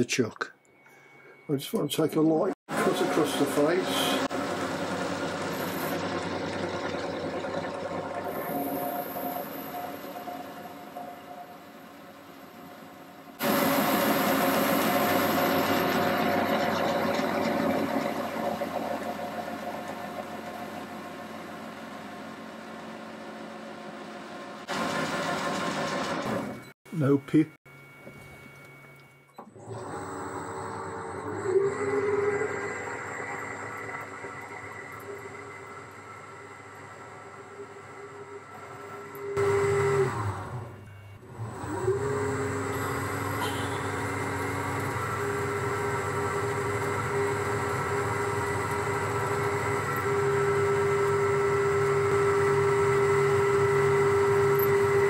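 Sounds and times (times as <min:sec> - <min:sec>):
lathe cutting metal: 0:02.7 - 0:23.6, 0:29.7 - 0:40.3, 0:41.3 - 0:55.0.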